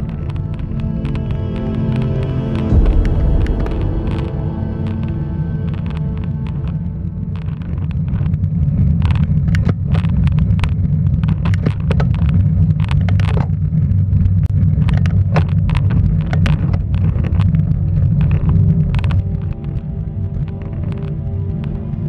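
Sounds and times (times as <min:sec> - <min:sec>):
sharp clicks and rattles: 0:00.0 - 0:22.0
wind rumbling on microphone: 0:00.0 - 0:22.0.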